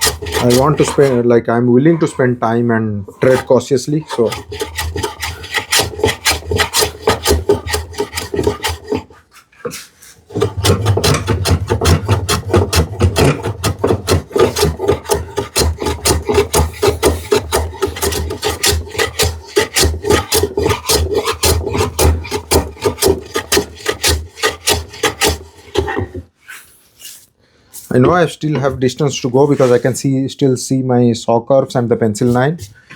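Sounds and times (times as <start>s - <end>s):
hand tool scraping wood: 0.0s - 2.4s, 3.1s - 30.1s.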